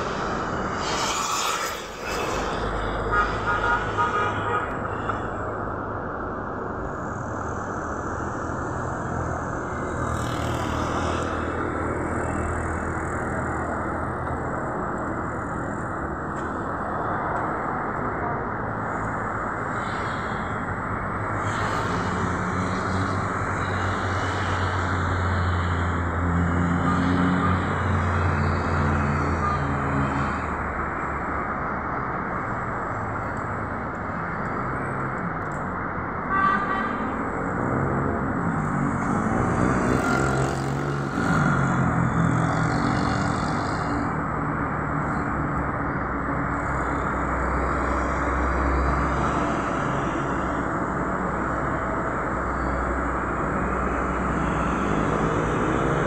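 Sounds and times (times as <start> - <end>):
road traffic rumble and hiss: 0.0 - 56.0.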